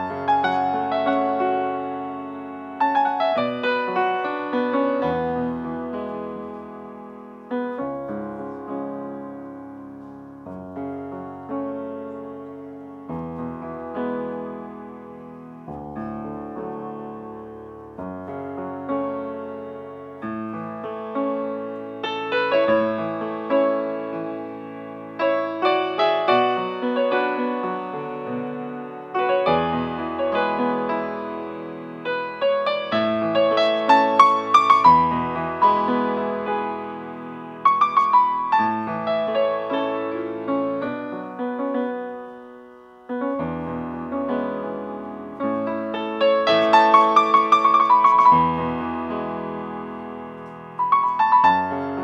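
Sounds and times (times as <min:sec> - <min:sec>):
grand piano chords: 0:00.0 - 0:52.0.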